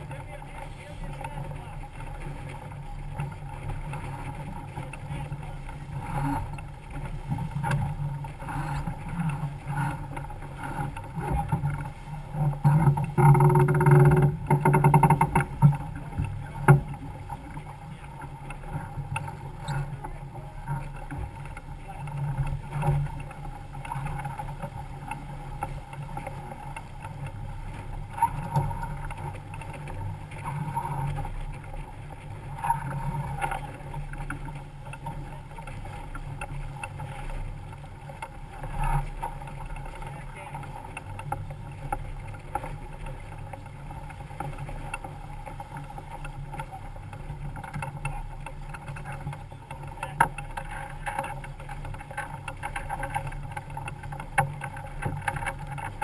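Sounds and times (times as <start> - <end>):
water rushing along boat hull: 0.0 - 56.0.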